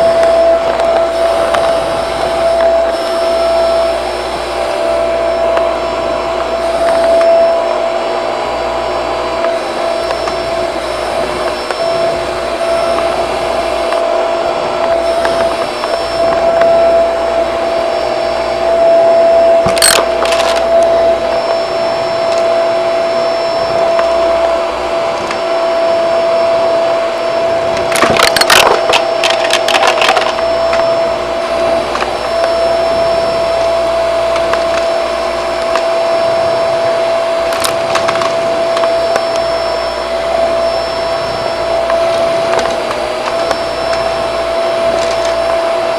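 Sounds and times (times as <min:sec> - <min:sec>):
debris rattling through vacuum: 0:00.0 - 0:45.9
vacuum cleaner whining: 0:00.0 - 0:45.9.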